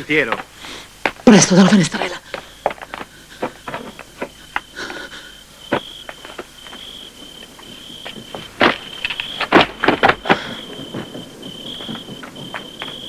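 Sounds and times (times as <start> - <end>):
crickets trilling: 0.0 - 13.0
rustling through brush: 0.3 - 13.0
footsteps through brush: 2.0 - 13.0.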